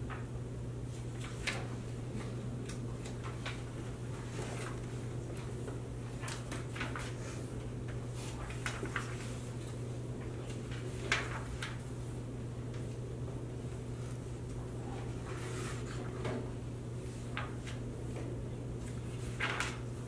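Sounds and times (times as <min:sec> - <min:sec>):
steady low hum: 0:00.0 - 0:20.0
clicks and rustles of papers: 0:00.9 - 0:12.0, 0:13.6 - 0:20.0.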